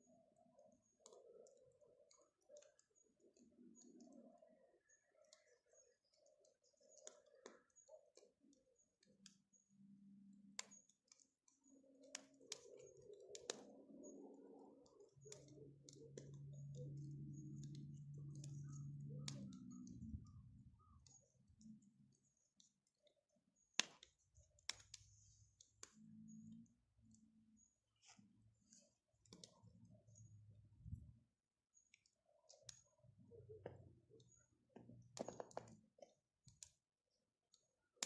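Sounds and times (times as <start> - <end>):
faint bonfire crackling: 0.1 - 38.0.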